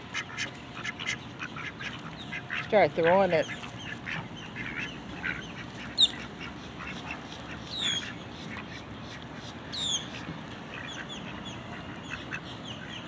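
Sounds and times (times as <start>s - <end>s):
ducks quacking: 0.1s - 13.0s.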